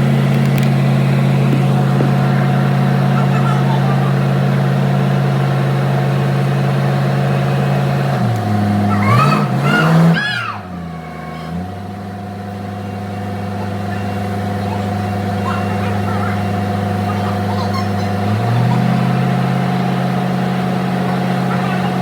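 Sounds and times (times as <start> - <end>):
forklift engine running: 0.0 - 22.0.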